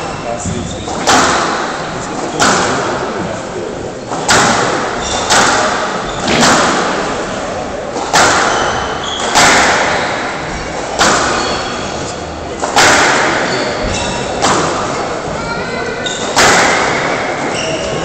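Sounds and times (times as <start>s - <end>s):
squash ball hits echoing: 0.0s - 18.0s.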